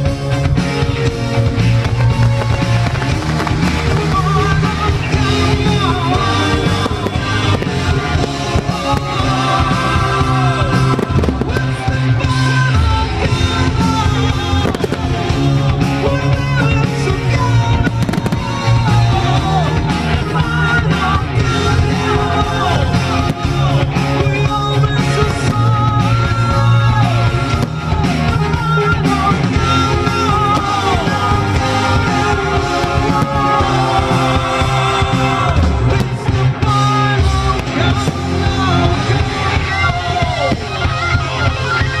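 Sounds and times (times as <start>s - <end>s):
loud music with heavy bass: 0.0s - 42.0s
person singing: 0.0s - 42.0s
fireworks bangs and crackles: 0.6s - 42.0s.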